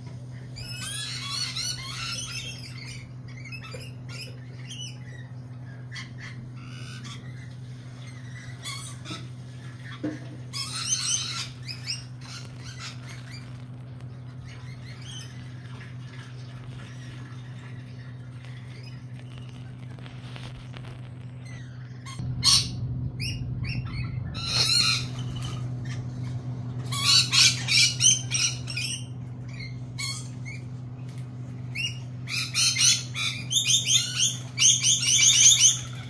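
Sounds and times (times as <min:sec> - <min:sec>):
steady low hum: 0:00.0 - 0:36.0
lorikeets screeching and chattering: 0:00.3 - 0:20.0, 0:21.2 - 0:30.8, 0:31.6 - 0:36.0.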